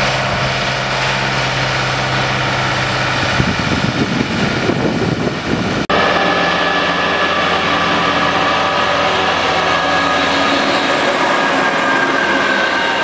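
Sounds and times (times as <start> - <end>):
heavy truck diesel engines: 0.0 - 13.0.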